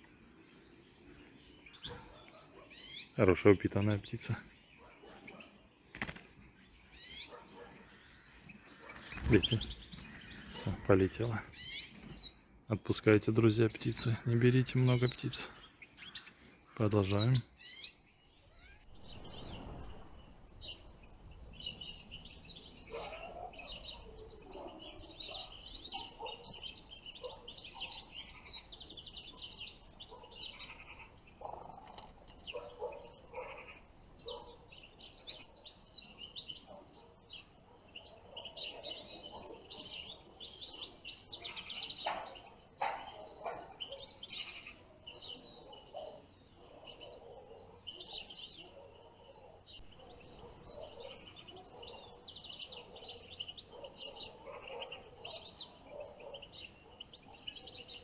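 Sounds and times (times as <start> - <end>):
finches twittering and chirping: 0.0 - 58.0.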